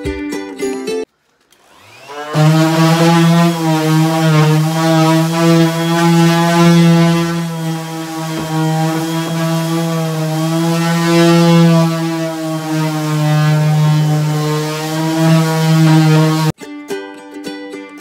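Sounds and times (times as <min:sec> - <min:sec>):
drill sanding wood: 0:01.6 - 0:16.6.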